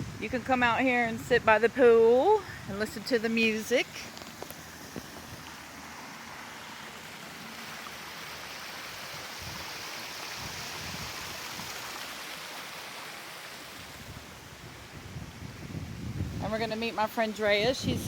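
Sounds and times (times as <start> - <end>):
steady rushing hiss: 3.2 - 17.9.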